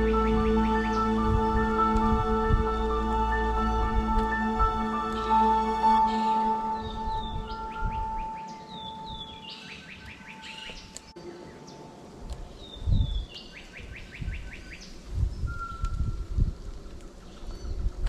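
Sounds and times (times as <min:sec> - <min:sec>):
low thumps of wind: 0:00.0 - 0:10.2, 0:12.0 - 0:18.0
songbird singing: 0:00.0 - 0:16.5.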